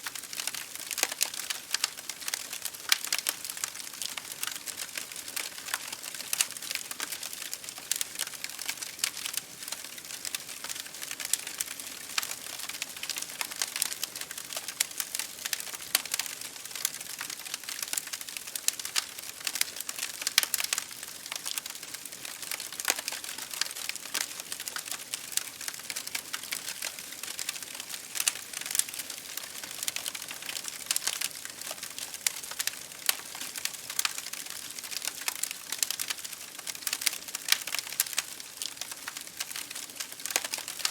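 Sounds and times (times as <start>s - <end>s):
campfire crackling: 0.0s - 40.9s
fire popping: 0.3s - 40.9s.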